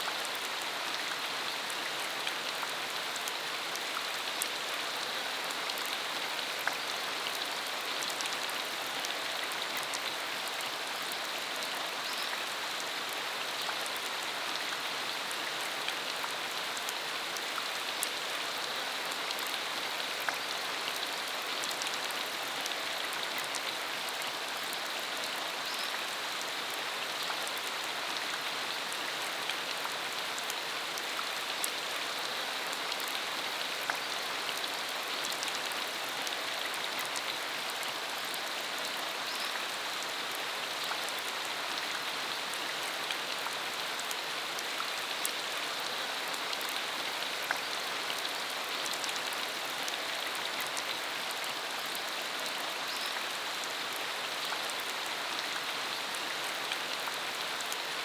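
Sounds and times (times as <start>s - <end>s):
rain falling on dirt road: 0.0s - 58.0s.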